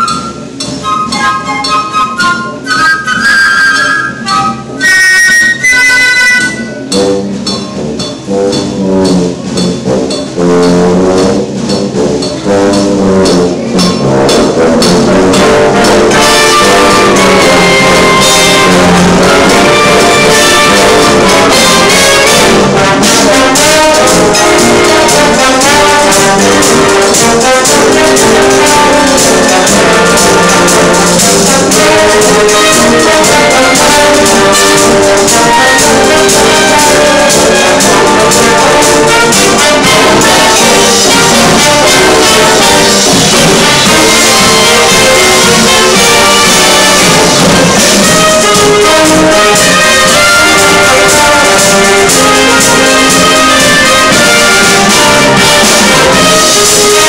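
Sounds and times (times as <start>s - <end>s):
drums and cymbals: 0.0s - 57.0s
wind band playing: 0.0s - 57.0s.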